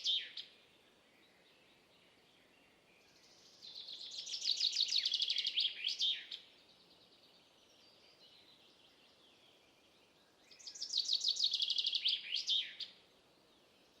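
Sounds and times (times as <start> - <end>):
songbird singing trills: 0.0 - 14.0.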